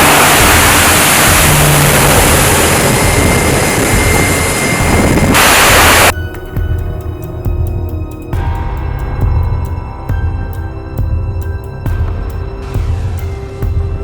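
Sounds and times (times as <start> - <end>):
engine exhaust rushing: 0.0 - 14.0
low music drone: 0.0 - 14.0.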